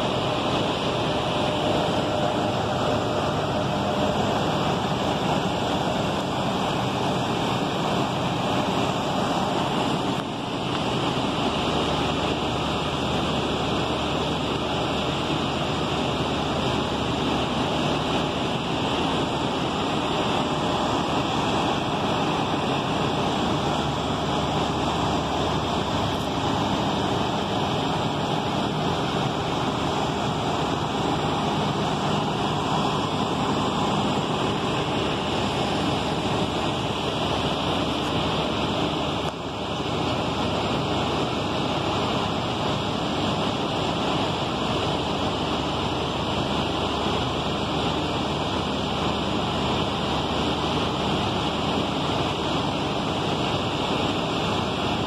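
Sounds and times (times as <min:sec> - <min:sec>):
buses idling: 0:00.0 - 0:55.0.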